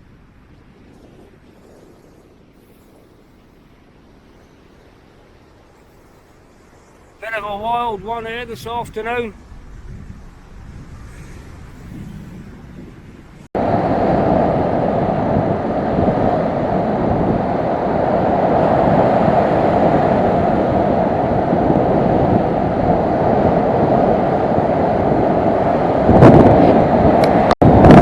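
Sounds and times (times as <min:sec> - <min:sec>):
wind buffeting microphone: 0:00.0 - 0:28.0
rough sea surf: 0:04.1 - 0:28.0.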